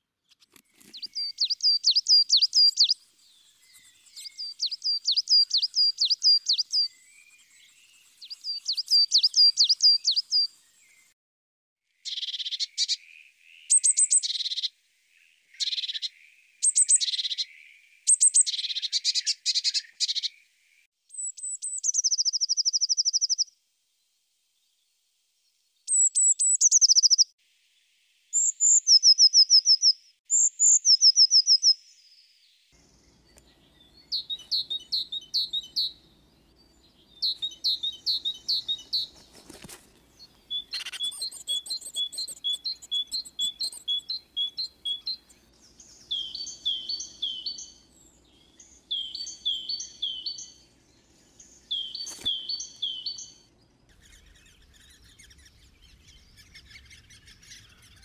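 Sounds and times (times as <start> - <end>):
songbirds singing: 0.3 - 11.2, 12.0 - 23.5, 24.6 - 27.4, 28.3 - 58.0.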